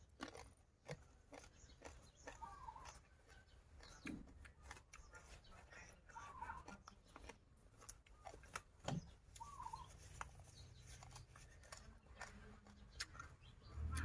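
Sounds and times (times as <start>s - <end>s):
person chewing vegetables: 0.0s - 14.0s.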